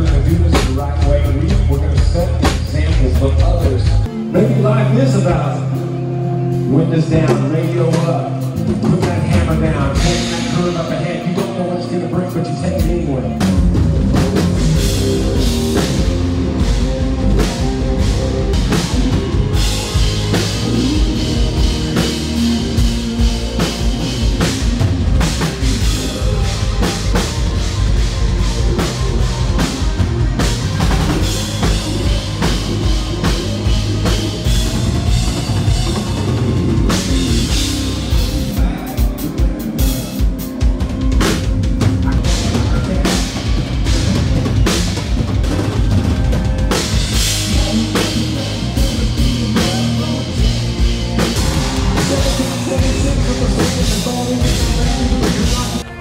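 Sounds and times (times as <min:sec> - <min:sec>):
drum kit beat: 0:00.0 - 0:06.1, 0:07.2 - 0:11.8, 0:12.8 - 0:56.0
country-rock band playing: 0:00.0 - 0:56.0
electric guitars: 0:00.0 - 0:56.0.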